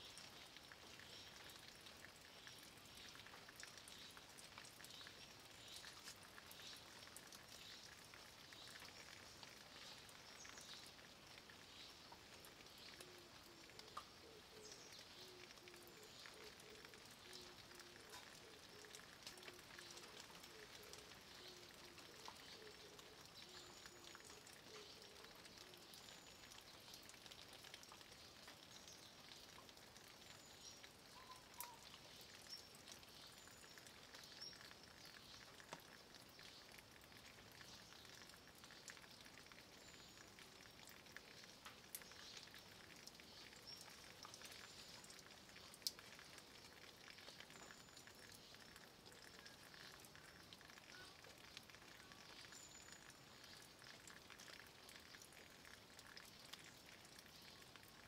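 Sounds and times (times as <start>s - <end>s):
light rain hiss: 0.0s - 58.0s
rain drop ticks: 0.0s - 58.0s.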